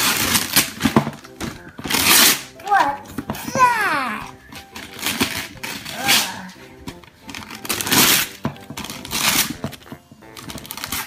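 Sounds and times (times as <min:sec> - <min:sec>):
wrapping paper tearing: 0:00.0 - 0:02.9, 0:04.4 - 0:11.0.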